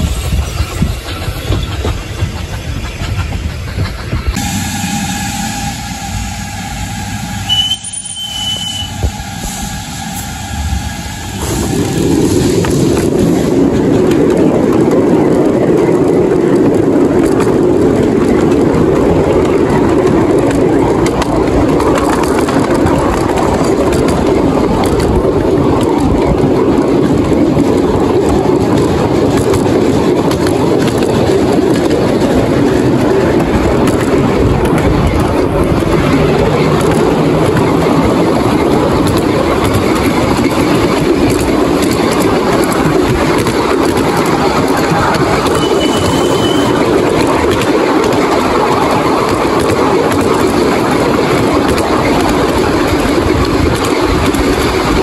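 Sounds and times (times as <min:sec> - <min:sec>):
train carriages rumbling: 0:00.0 - 0:55.0.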